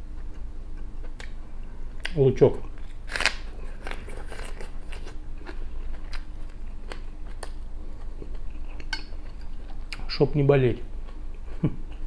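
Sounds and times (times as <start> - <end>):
raw onion being chewed: 0.0 - 10.2, 10.8 - 12.0.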